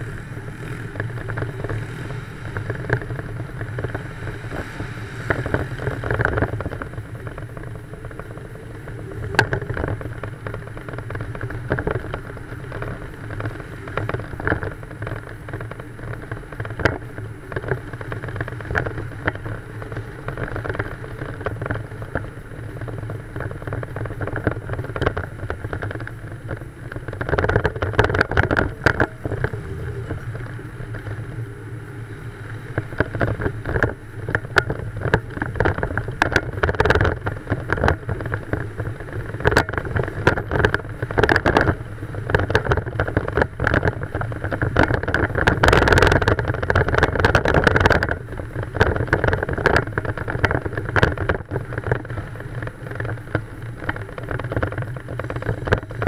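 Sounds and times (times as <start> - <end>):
car engine running: 0.0 - 56.0
road and wind noise: 0.0 - 56.0
wind buffeting microphone: 0.0 - 56.0.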